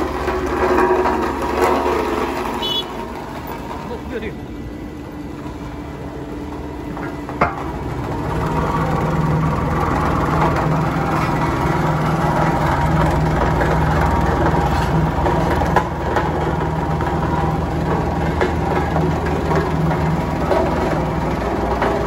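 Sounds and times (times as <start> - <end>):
road roller diesel engine running: 0.0 - 22.0.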